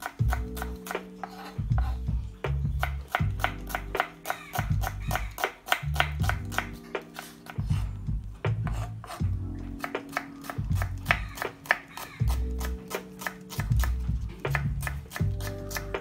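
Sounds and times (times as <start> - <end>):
knife chopping on wooden board: 0.0 - 7.9, 8.5 - 16.0
background music: 0.0 - 16.0.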